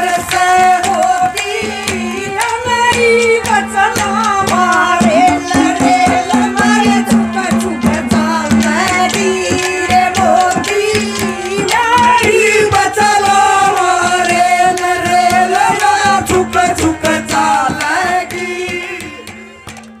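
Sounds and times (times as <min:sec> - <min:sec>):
woman singing into microphone: 0:00.0 - 0:19.5
hand drum beats: 0:00.0 - 0:20.0.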